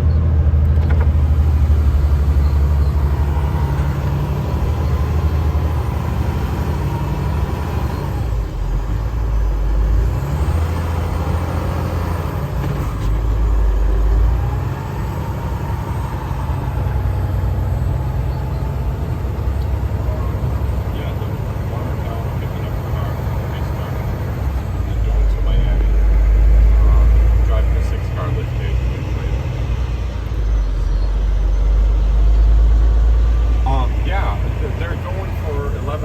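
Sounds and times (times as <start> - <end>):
truck engine driving: 0.0 - 36.0.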